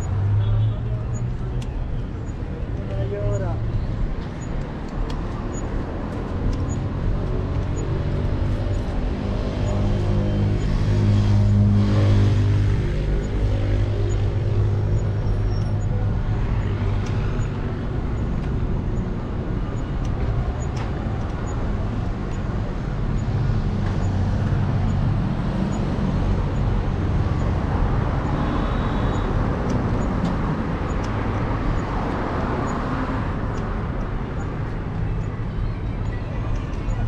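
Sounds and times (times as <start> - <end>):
traffic rumble: 0.0 - 37.0
vehicles passing: 0.0 - 37.0.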